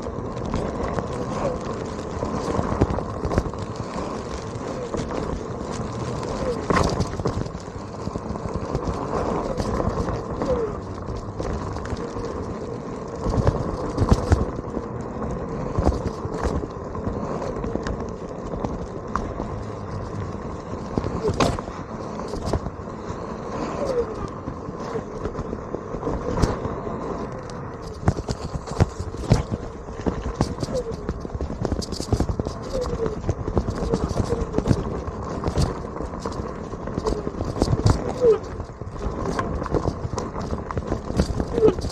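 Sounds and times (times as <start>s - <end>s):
electric board rolling rumble: 0.0s - 41.9s.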